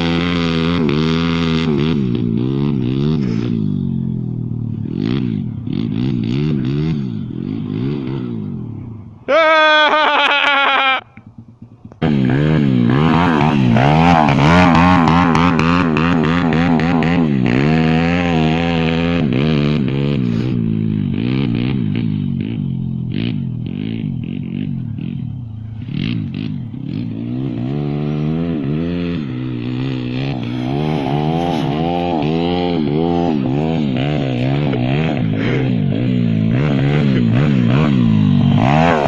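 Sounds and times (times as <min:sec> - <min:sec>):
pit bike engine revving: 0:00.0 - 0:39.0.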